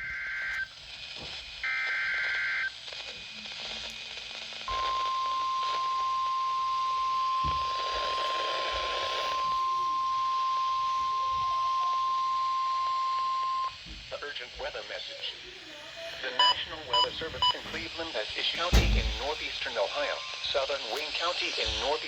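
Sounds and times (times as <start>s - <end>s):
radio hiss: 0.0s - 22.0s.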